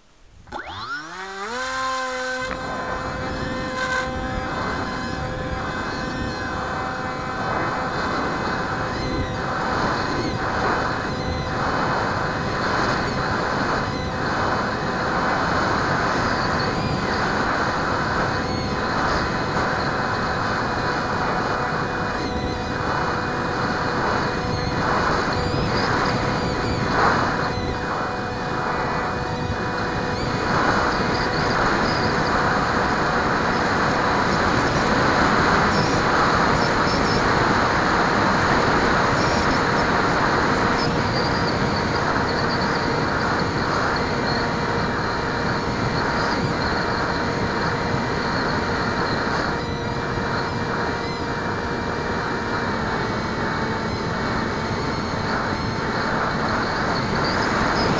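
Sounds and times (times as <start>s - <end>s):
electric motor whine: 0.1s - 57.9s.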